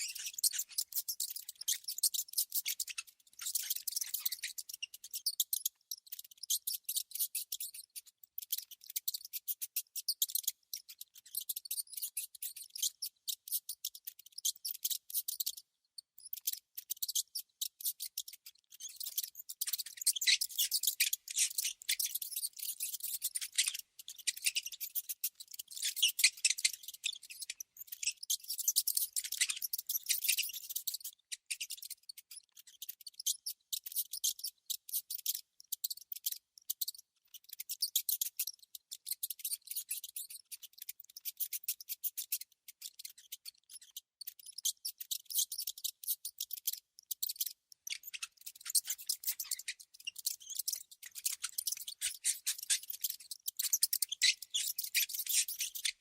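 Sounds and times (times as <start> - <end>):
rodents squeaking: 0.0 - 56.0.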